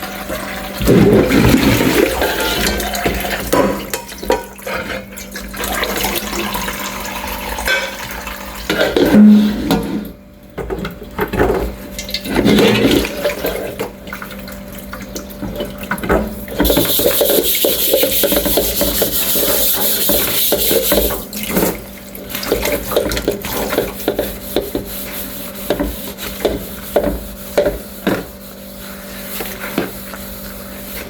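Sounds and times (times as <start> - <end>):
dishes being washed: 0.0 - 31.0.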